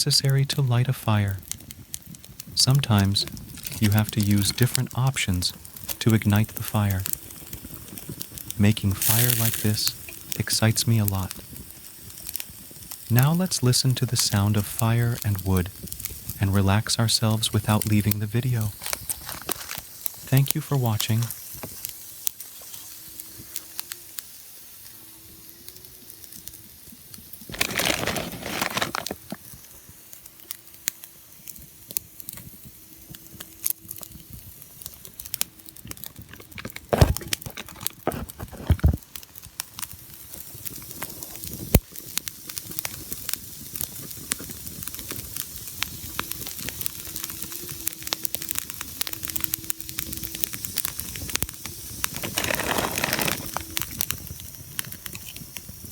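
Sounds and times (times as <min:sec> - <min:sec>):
fire rushing flare-up: 0:00.0 - 0:24.9, 0:25.5 - 0:55.9
wood fire crackling: 0:00.0 - 0:55.9
sharp pops of fire: 0:01.2 - 0:16.6, 0:18.6 - 0:55.9.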